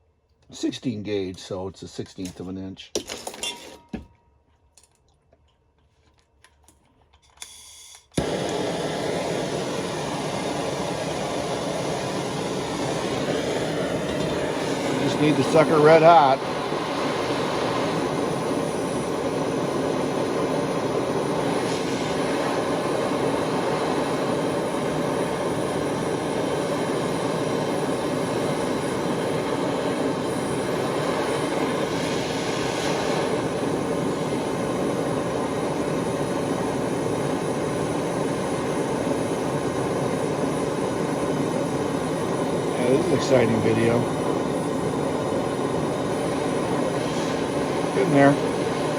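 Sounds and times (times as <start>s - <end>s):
gas torch flame roaring: 7.4s - 48.9s.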